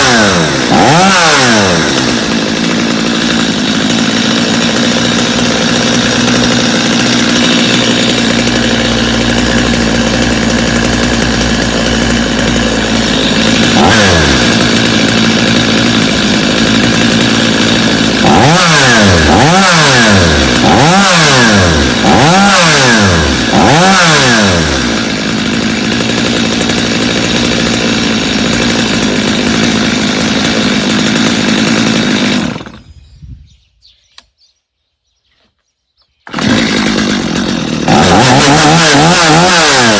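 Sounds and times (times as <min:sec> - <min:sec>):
chainsaw engine idling and revving: 0:00.0 - 0:33.0, 0:36.2 - 0:39.9.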